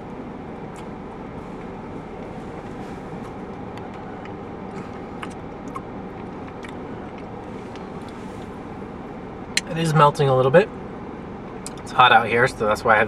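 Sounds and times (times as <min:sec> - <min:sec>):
car air conditioning hum: 0:00.0 - 0:13.0.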